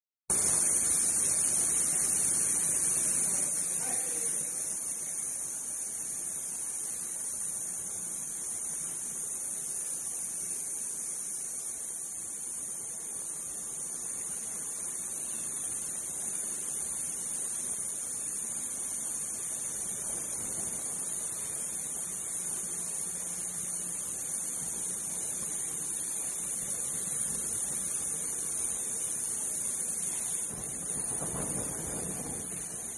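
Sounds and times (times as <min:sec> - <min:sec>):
ultrasonic cleaning machine hissing: 0:00.3 - 0:32.9.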